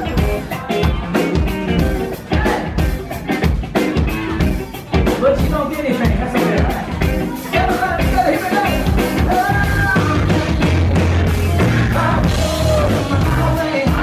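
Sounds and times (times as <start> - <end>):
man singing: 0.0 - 3.1, 5.0 - 14.0
drum kit beat: 0.0 - 14.0
electric guitar: 0.0 - 14.0
keyboards: 0.0 - 14.0.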